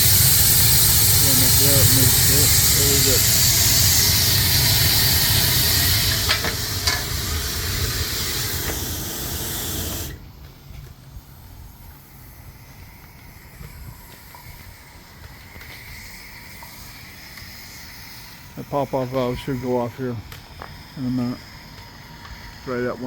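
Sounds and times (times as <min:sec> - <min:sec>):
faint hiss: 0:00.0 - 0:23.0
steam jet hissing: 0:00.0 - 0:23.0.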